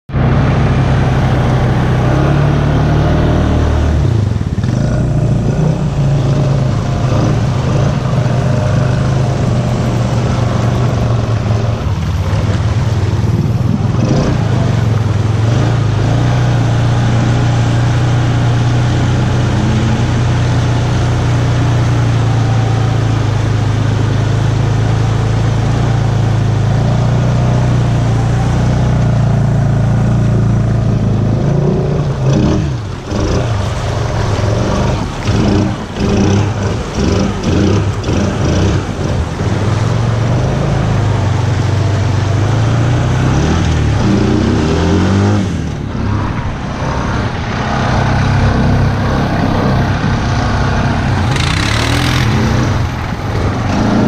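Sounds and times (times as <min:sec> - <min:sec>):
quad bike engine under load: 0:00.2 - 0:54.0
wading through water: 0:00.6 - 0:54.0.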